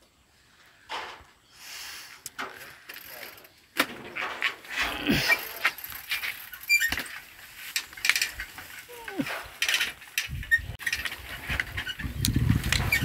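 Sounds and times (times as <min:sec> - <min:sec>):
bicycle rattling and clicking: 0:02.3 - 0:13.0.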